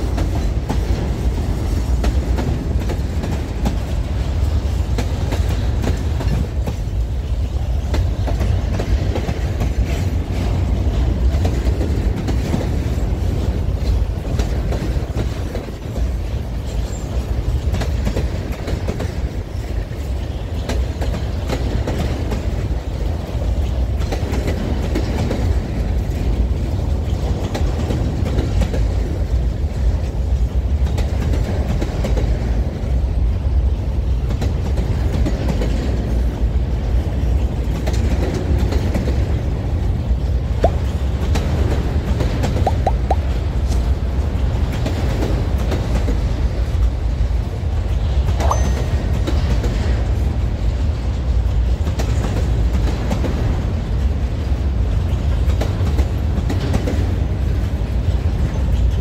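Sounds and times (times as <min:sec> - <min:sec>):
train wagons rumbling: 0:00.0 - 0:59.0.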